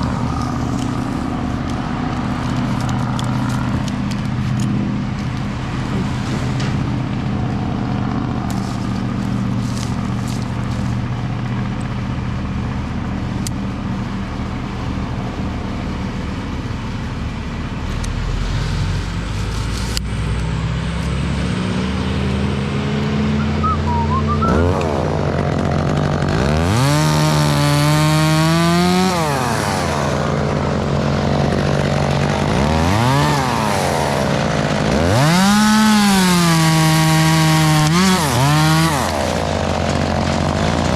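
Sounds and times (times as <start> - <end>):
chainsaw engine idling and revving: 0.0 - 23.5, 24.3 - 40.9.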